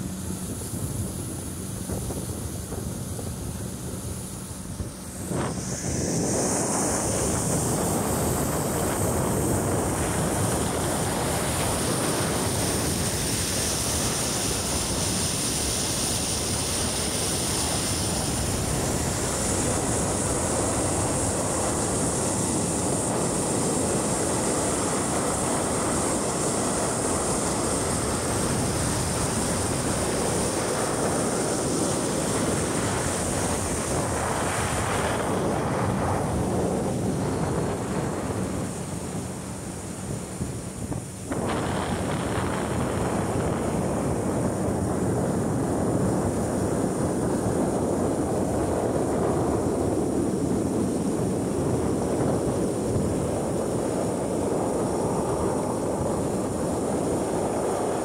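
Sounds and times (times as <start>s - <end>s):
water rushing along boat hull: 0.0s - 58.0s
wind rushing over microphone: 0.0s - 58.0s.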